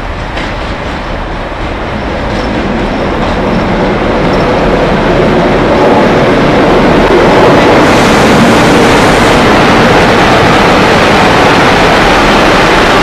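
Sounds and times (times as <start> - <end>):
diesel locomotives passing: 0.0 - 13.0
train coaches rolling by: 0.0 - 13.0.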